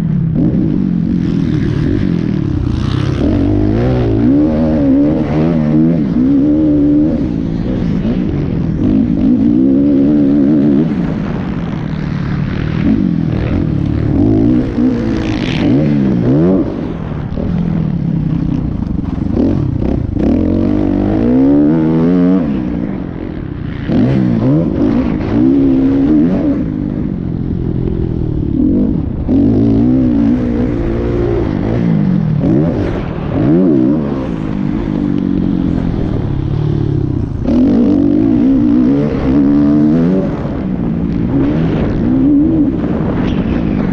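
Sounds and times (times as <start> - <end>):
dirt bike engines revving: 0.0 - 43.9.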